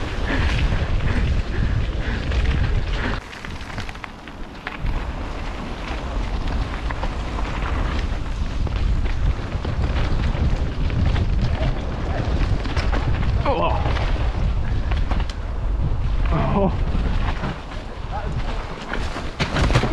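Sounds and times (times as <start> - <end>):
bike rattling and knocking: 0.0 - 19.9
tyres rolling over dirt: 0.0 - 19.9
wind buffeting microphone: 0.0 - 19.9.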